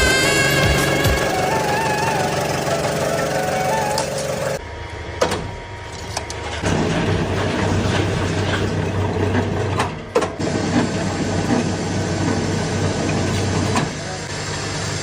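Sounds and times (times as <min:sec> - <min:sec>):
factory machinery humming and clattering: 0:00.0 - 0:15.0.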